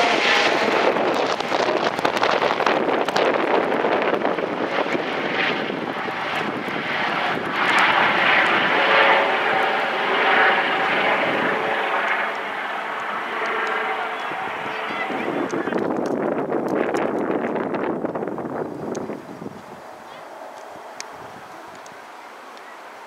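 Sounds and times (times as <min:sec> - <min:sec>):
helicopter rotor noise: 0:00.0 - 0:21.9
faint turbine whine: 0:00.0 - 0:23.0.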